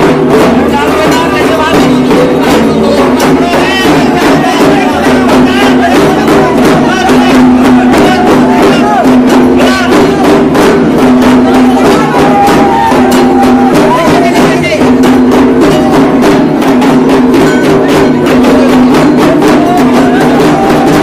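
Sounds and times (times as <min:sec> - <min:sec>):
crowd voices: 0:00.0 - 0:21.0
fast drumming: 0:00.0 - 0:21.0.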